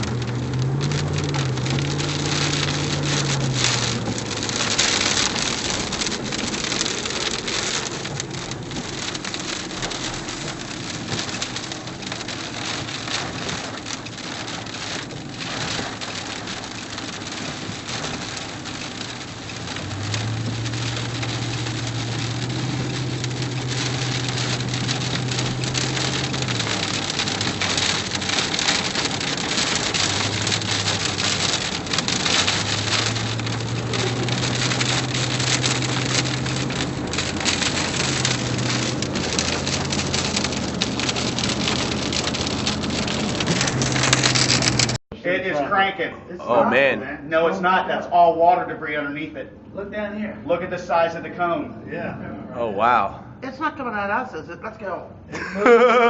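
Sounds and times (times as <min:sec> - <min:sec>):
rain falling: 0:00.0 - 0:45.0, 0:46.5 - 0:47.0, 0:55.4 - 0:56.0.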